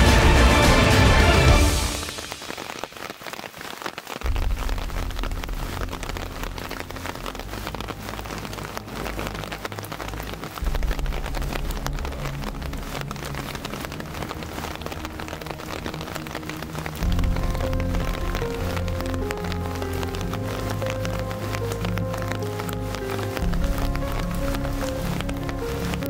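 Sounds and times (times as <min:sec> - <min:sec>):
steady rain patter: 0:00.0 - 0:26.0
low rumble: 0:04.3 - 0:26.0.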